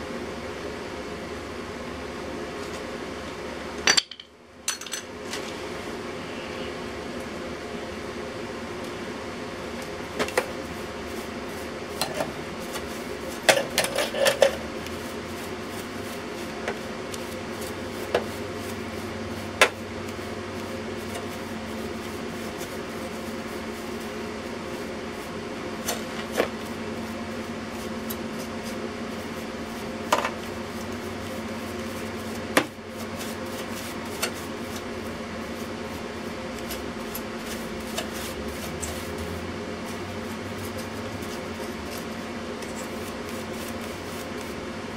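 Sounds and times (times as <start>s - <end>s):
steady background hum: 0.0s - 44.9s.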